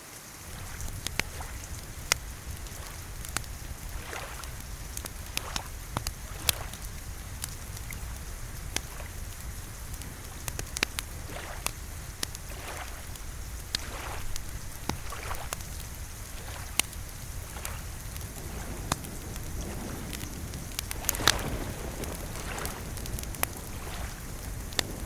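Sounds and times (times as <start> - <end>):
gentle rain: 0.0 - 25.0
wood fire crackling and popping: 0.4 - 25.0.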